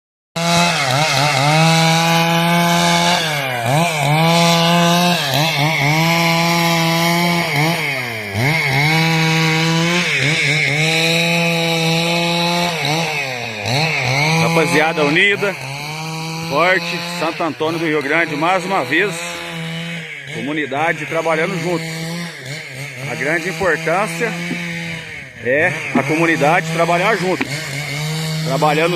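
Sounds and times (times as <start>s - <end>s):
chainsaw cutting wood: 0.4s - 28.9s.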